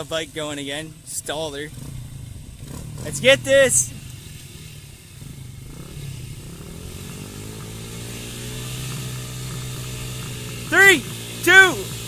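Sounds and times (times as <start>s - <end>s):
small motorbike engines idling: 0.0s - 12.0s
motorbike engine revving: 0.9s - 12.0s.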